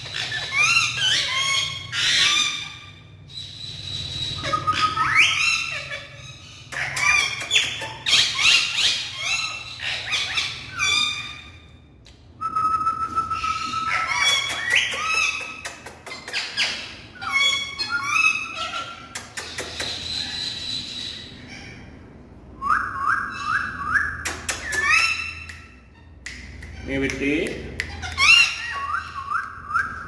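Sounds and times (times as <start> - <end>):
parrots whistling and calling: 0.0 - 27.1, 27.8 - 30.0.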